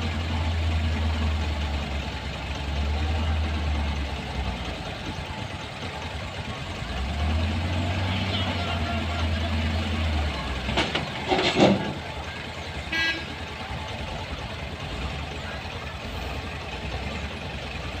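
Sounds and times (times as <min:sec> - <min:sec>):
heavy road vehicles running: 0:00.0 - 0:18.0.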